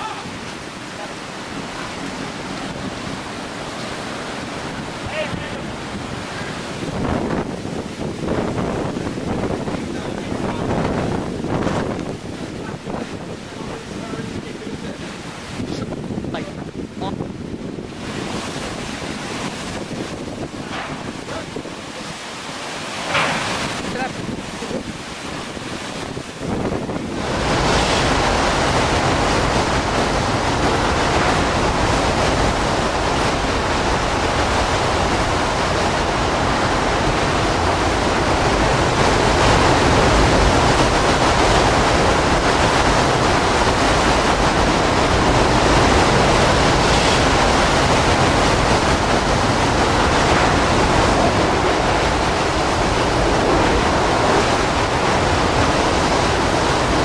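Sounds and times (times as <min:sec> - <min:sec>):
hurricane wind: 0:00.0 - 0:57.0
wind-driven rain: 0:00.0 - 0:57.0.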